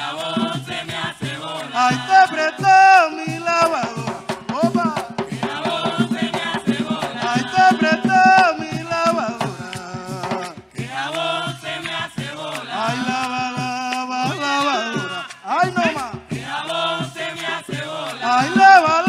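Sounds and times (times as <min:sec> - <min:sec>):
call-and-response singing: 0:00.0 - 0:19.0
hand drums: 0:00.0 - 0:19.0.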